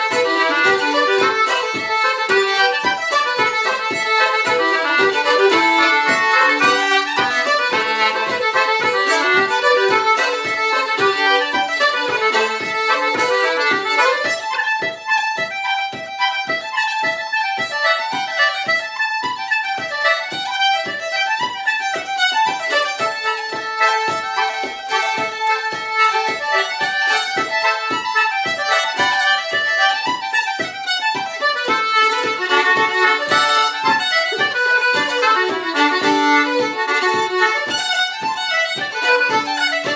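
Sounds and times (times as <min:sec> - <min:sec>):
concertina: 0:00.0 - 0:39.9
fiddle: 0:00.0 - 0:39.9.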